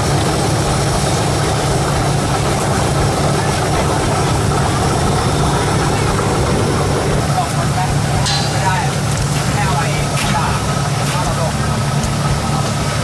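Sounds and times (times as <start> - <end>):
motor humming with hiss: 0.0 - 13.0.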